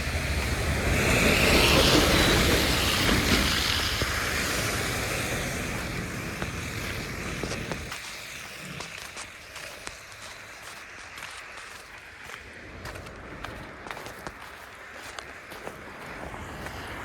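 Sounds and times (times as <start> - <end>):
footsteps on sidewalk: 0.0 - 17.0
tyres hissing on wet road: 0.0 - 17.0.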